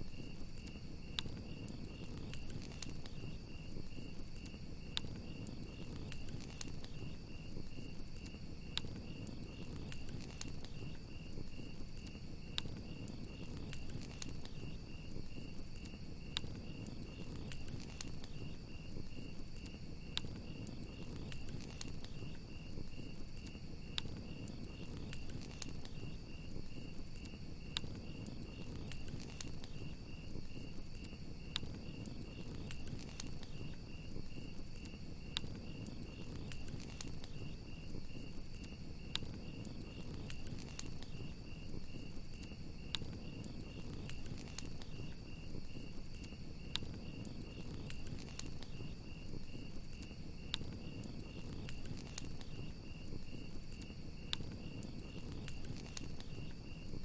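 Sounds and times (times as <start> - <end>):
campfire crackling: 0.0 - 57.0
crickets chirping: 0.0 - 57.0
insect trill: 0.0 - 57.0.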